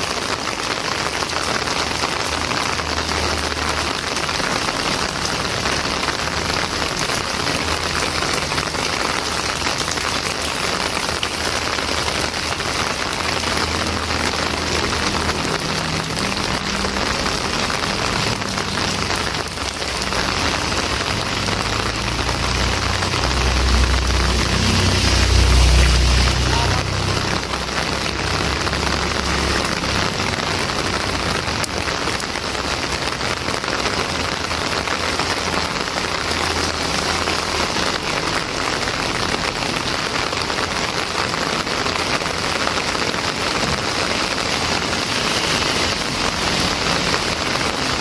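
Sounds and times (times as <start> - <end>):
heavy rain on a street: 0.0 - 48.0.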